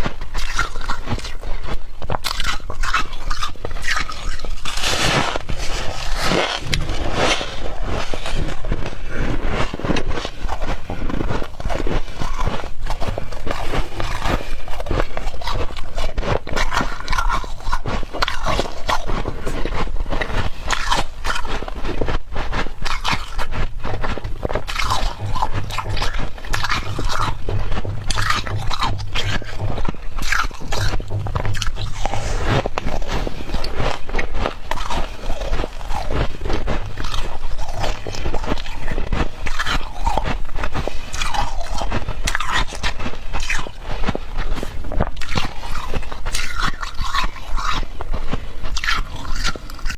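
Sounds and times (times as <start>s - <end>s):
chewing crunchy frost: 0.0s - 49.9s.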